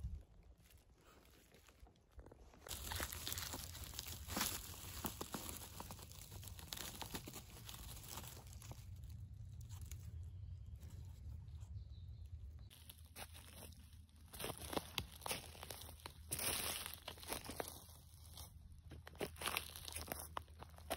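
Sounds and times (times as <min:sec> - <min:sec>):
dry leaves crackling and rustling: 0:00.2 - 0:11.3, 0:12.7 - 0:20.9.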